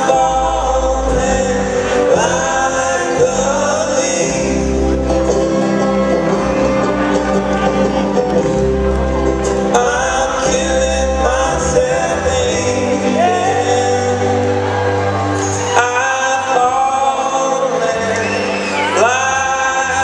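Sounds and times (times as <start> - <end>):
person singing: 0.0 - 6.2, 9.5 - 20.0
acoustic guitar: 0.0 - 20.0
upright bass: 0.0 - 20.0.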